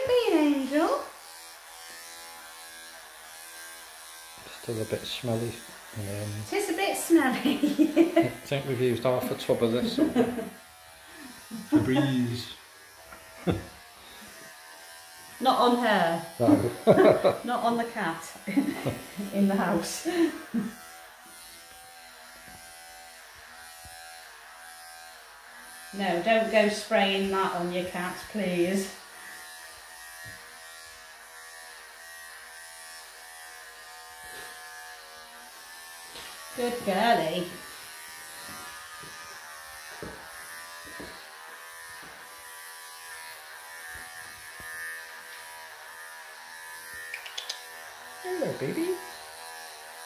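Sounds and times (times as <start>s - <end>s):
electric pet clippers buzzing: 0.0s - 50.0s.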